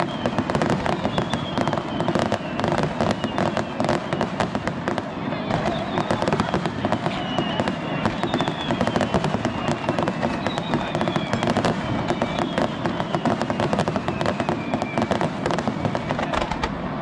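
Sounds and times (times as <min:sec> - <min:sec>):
firework whistles falling in pitch: 0:00.0 - 0:16.6
fireworks crackling pops: 0:00.0 - 0:17.0.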